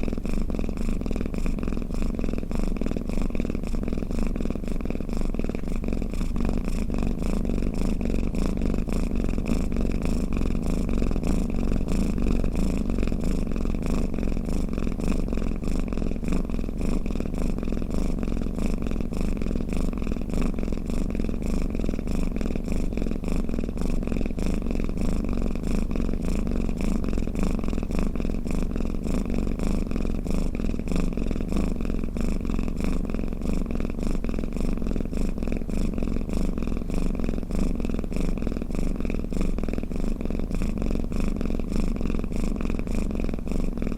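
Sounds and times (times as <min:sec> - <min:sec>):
cat purring: 0:00.0 - 0:43.9.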